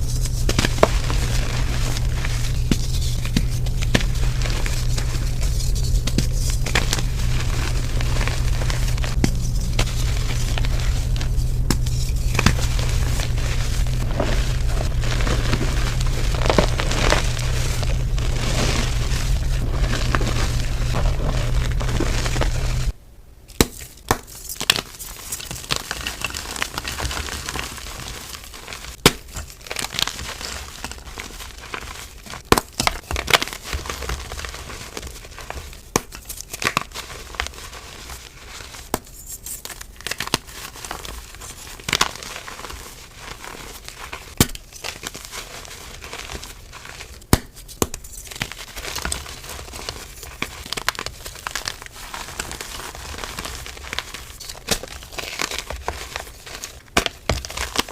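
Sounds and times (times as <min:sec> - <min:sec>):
chalk blocks crumbling: 0:00.0 - 0:22.9, 0:23.6 - 0:57.9.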